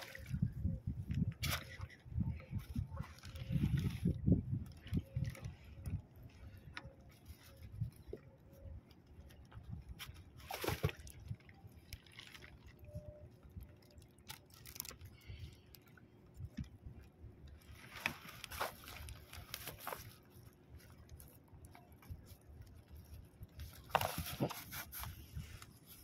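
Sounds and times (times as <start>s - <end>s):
water sloshing around boat: 0.0s - 26.0s.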